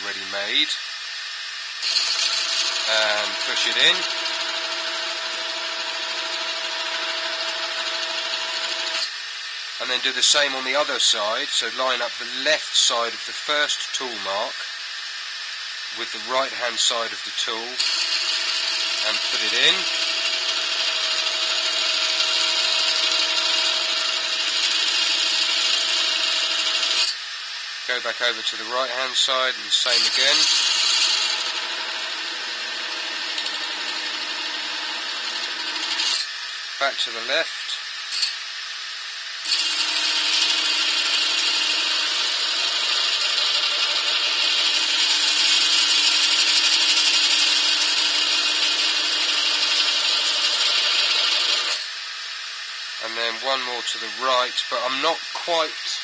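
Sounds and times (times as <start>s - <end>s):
lathe motor hum: 0.2s - 11.7s, 17.7s - 27.8s, 28.8s - 36.7s, 39.3s - 56.0s.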